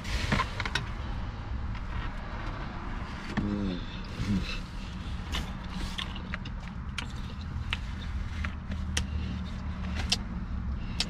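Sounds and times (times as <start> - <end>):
car hum: 0.0 - 11.0.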